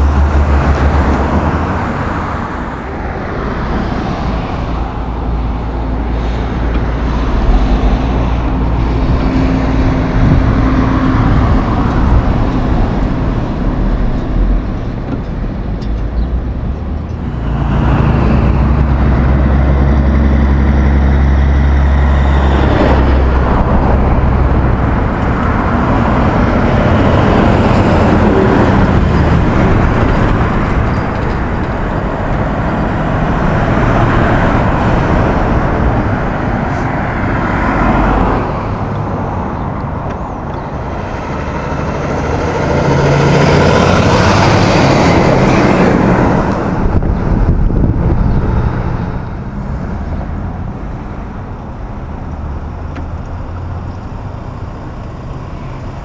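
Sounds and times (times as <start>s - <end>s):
cars and trucks driving past: 0.0s - 56.0s.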